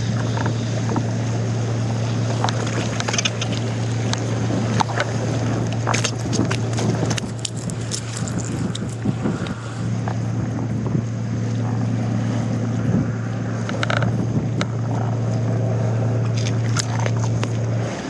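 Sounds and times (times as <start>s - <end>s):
boat motor humming: 0.0s - 18.0s
water noise: 0.0s - 18.0s
wind: 0.0s - 18.0s.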